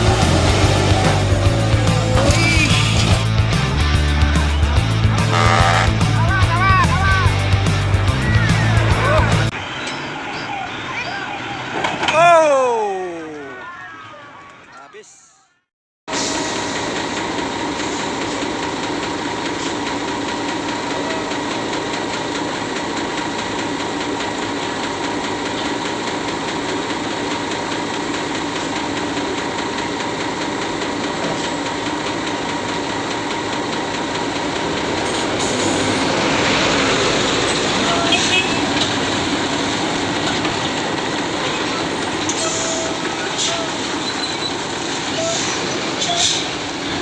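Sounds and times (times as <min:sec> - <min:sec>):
diesel truck engines under load: 0:00.0 - 0:15.2, 0:16.1 - 0:47.0.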